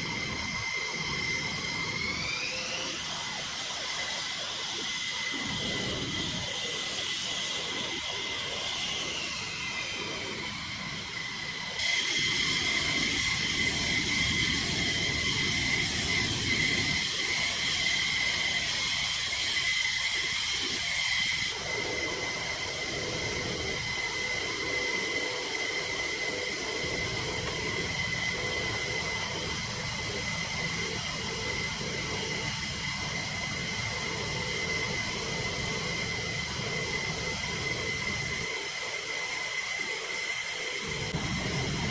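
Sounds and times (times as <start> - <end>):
fighter jet engines whining: 0.0 - 41.9.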